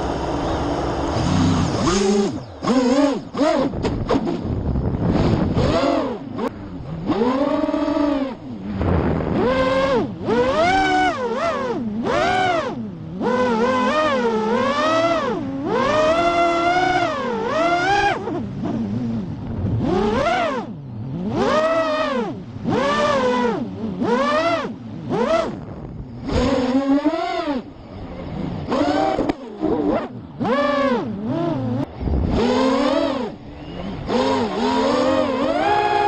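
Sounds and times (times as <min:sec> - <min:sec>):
motor revving: 0:00.0 - 0:36.0.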